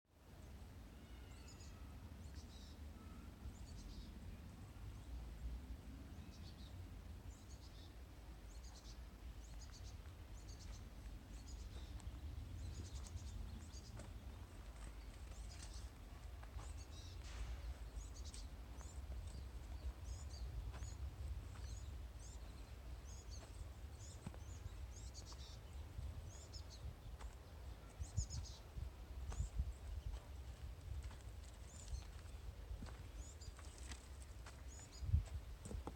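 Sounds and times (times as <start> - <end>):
faint low rumble: 0.2 - 35.9
small birds chirping: 6.1 - 35.9.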